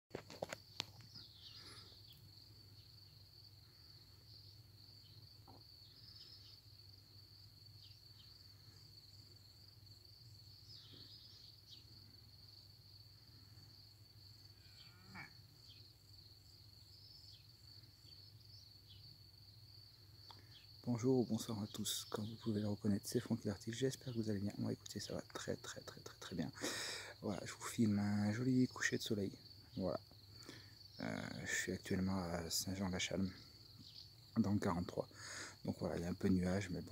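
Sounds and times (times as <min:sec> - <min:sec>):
crickets chirring: 0:00.1 - 0:36.9.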